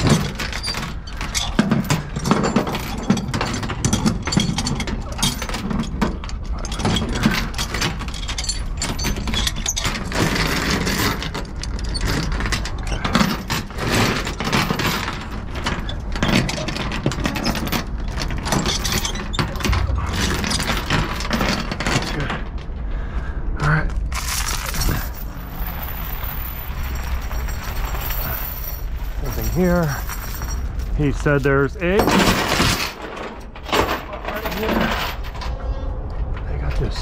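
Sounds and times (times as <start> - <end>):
steel chain clanking: 0.0 - 22.8, 23.9 - 35.9.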